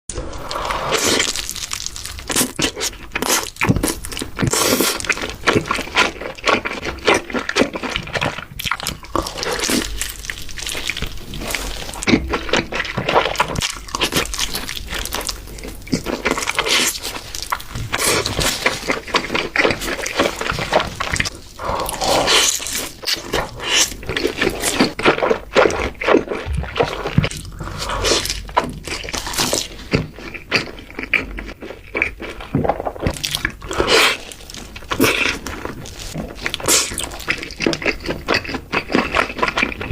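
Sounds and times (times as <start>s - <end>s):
crunchy chewing and biting: 0.4s - 39.9s.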